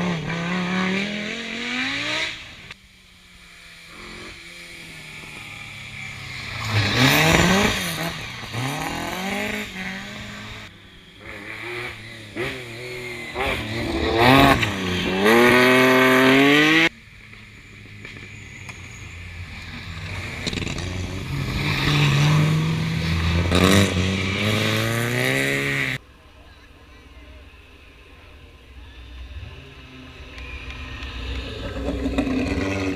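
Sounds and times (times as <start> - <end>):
car approaching: 0.0 - 32.9
rally car engines at full throttle: 0.0 - 32.9.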